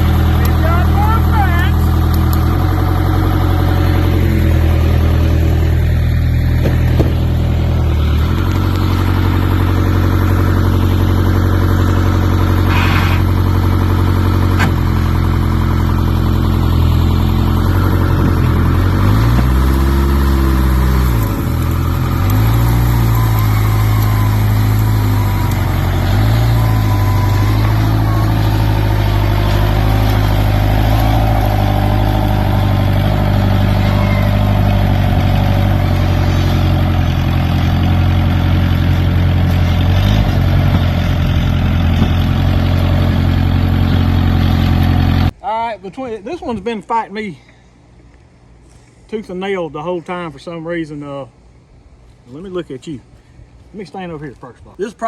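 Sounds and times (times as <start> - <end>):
diesel engine revving: 0.0 - 45.4.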